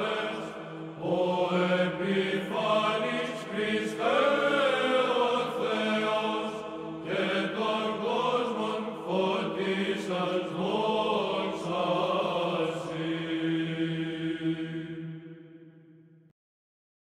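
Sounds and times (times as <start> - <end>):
voices chanting a melody: 0.0 - 15.4.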